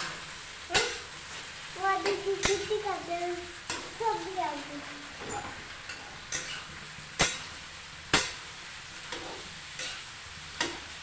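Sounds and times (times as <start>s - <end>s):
faint steady hiss: 0.0s - 11.0s
utensil clanking against a pan: 0.0s - 11.0s.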